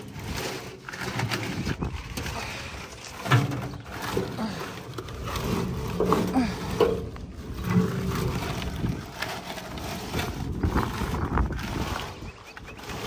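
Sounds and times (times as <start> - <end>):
chicken wire scraping metal bucket: 0.0 - 13.0.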